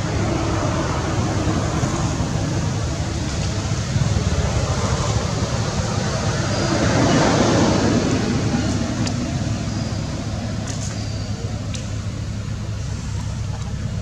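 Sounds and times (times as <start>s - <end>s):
low rumble: 0.0s - 14.0s
steady rushing noise: 0.0s - 14.0s.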